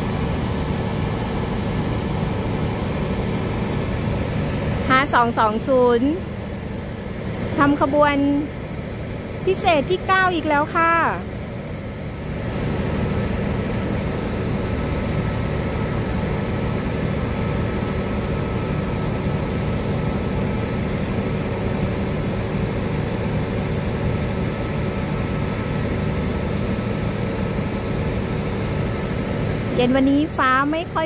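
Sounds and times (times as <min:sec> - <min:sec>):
constant hum: 0:00.0 - 0:31.0
locomotive engine idling: 0:00.0 - 0:31.0.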